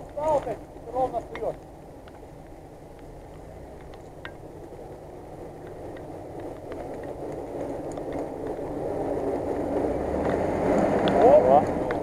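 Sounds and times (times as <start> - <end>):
tyres spinning in mud: 0.0 - 12.0
car engine pulling under load: 2.1 - 12.0.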